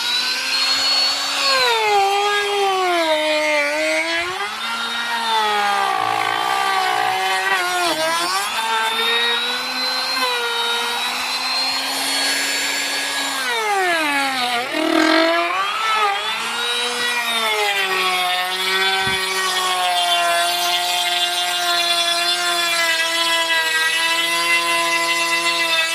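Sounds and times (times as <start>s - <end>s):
electric router whining: 0.0s - 25.9s.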